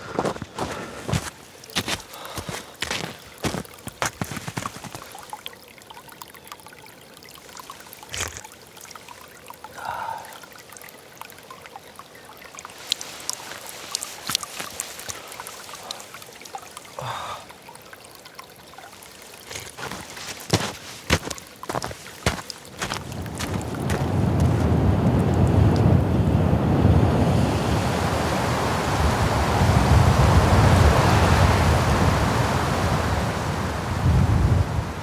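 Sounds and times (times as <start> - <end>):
water trickling: 0.1 - 35.0.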